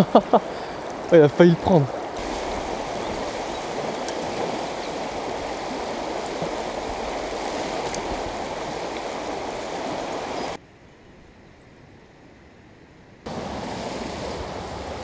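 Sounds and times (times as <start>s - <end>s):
river water rushing over stones: 0.0s - 10.6s, 13.3s - 15.0s.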